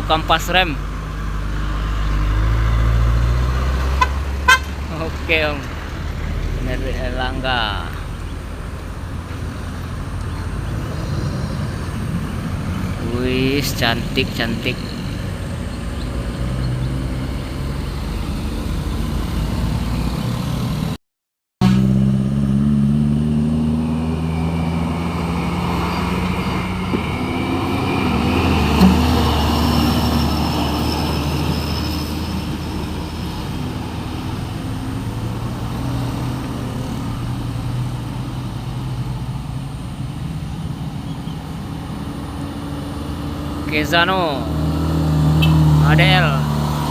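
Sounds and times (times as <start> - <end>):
diesel truck engine passing: 0.0 - 21.0, 21.8 - 46.9.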